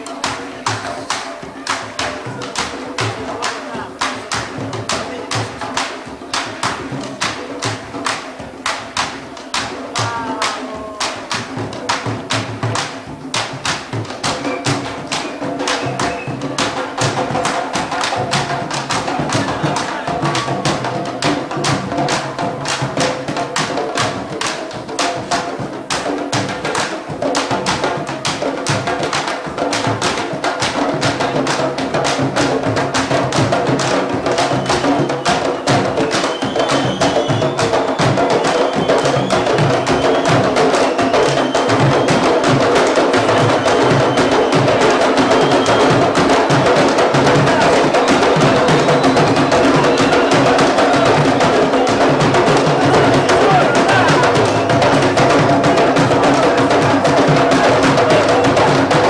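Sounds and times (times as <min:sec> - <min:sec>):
drum line playing fast rhythm: 0:00.0 - 0:59.0.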